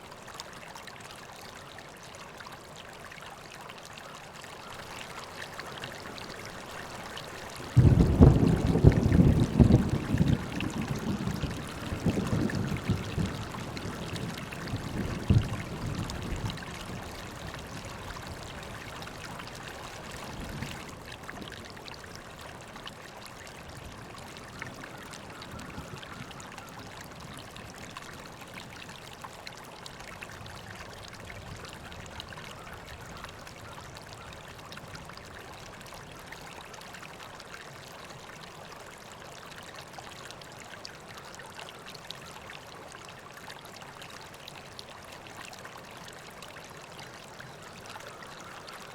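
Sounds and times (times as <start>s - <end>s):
river water babbling: 0.0s - 48.9s.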